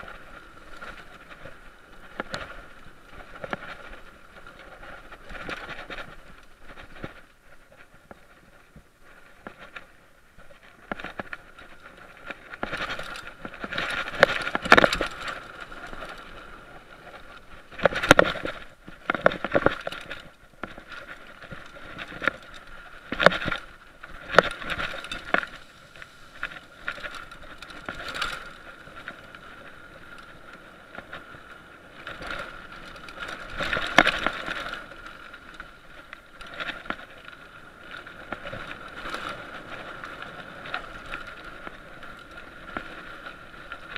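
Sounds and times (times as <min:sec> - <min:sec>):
mountain bike rattling on dirt trail: 0:00.0 - 0:43.9.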